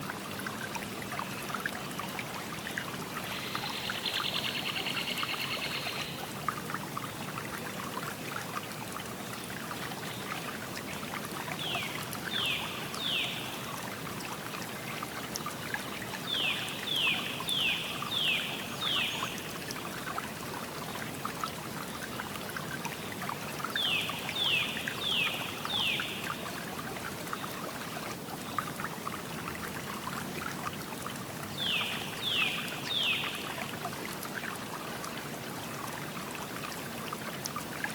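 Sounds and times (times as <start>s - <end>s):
river water flowing: 0.0s - 37.9s.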